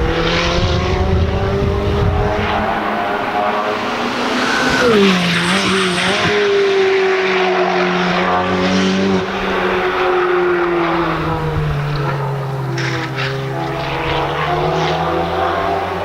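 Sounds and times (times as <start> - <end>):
racing car engine running: 0.0 - 16.0.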